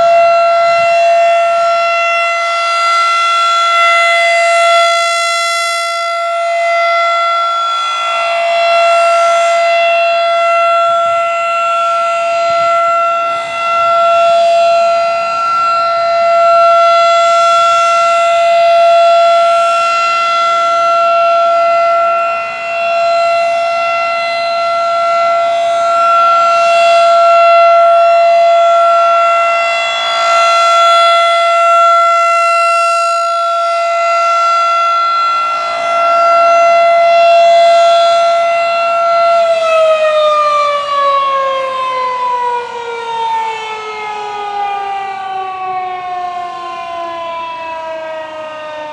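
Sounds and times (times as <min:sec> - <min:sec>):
rotating warning siren: 0:00.0 - 0:48.9.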